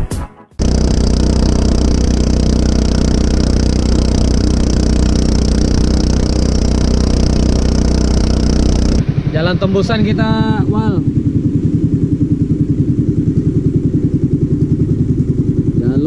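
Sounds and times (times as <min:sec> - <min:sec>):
small engine running: 0:00.6 - 0:16.0.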